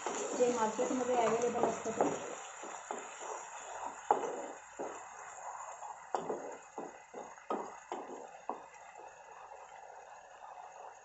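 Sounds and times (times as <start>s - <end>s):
spatula knocking and scraping pan: 0.0s - 9.2s
faint steady hiss: 0.0s - 11.0s.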